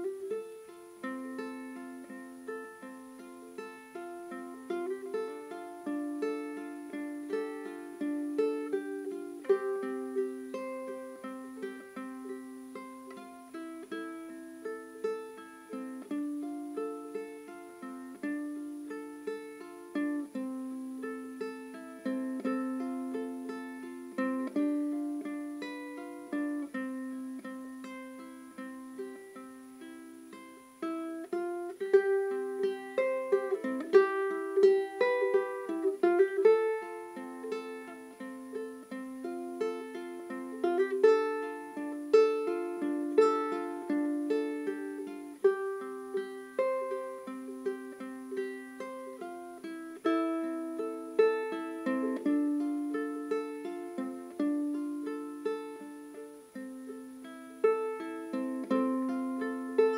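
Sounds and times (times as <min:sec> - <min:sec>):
plucked string instrumental music: 0:00.0 - 0:59.9.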